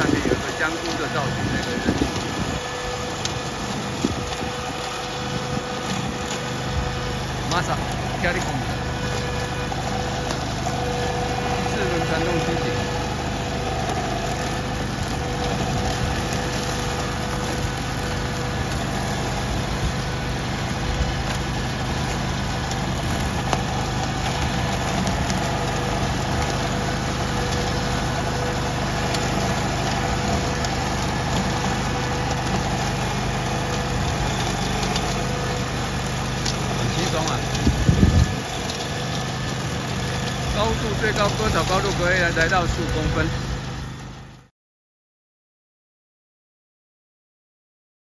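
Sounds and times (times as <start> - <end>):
ride-on mower engine running: 0.0 - 44.5.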